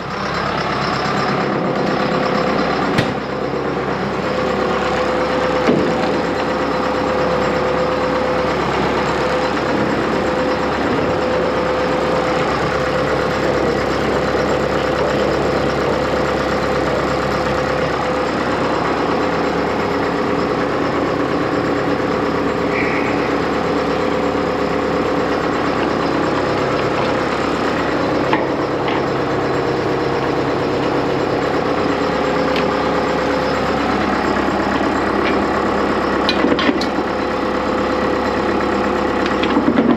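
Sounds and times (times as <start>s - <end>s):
constant tone: 0.0s - 39.9s
tractor diesel engine running: 0.0s - 39.9s.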